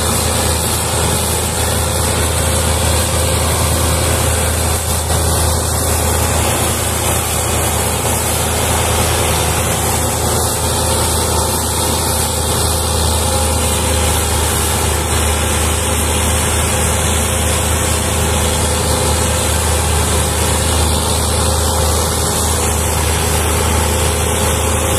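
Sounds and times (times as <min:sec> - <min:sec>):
diesel tractor engine droning: 0:00.0 - 0:24.9.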